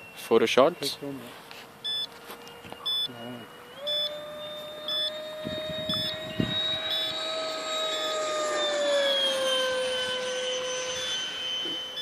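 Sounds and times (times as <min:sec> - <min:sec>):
model jet fan whining: 0:00.0 - 0:12.0.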